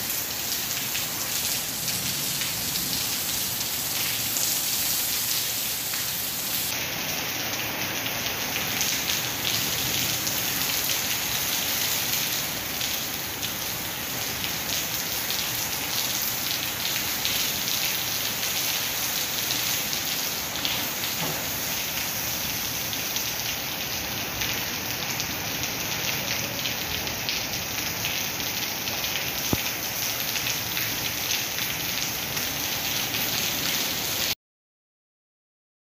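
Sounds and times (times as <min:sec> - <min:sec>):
heavy rain falling: 0:00.0 - 0:34.4.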